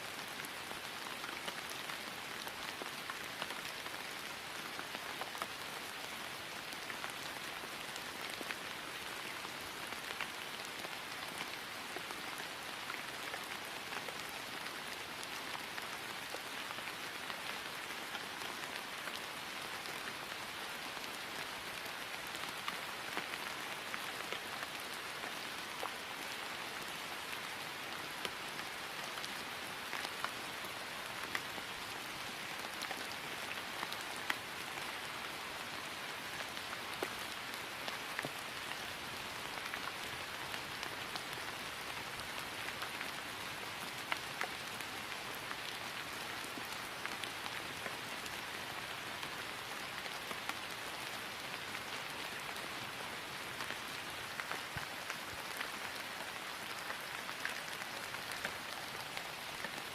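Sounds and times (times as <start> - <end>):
rain falling on grass: 0.0 - 59.9.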